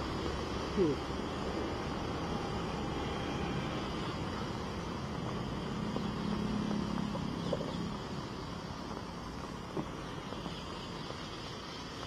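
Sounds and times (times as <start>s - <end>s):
car tyres on wet road: 0.0s - 12.0s
rain hiss: 0.0s - 12.0s.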